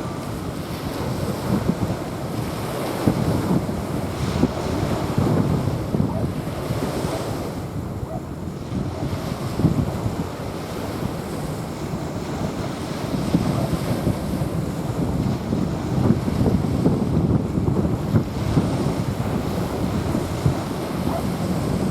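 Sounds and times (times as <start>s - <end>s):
small waves washing onto sand: 0.0s - 21.9s
wind buffeting microphone: 0.0s - 21.9s.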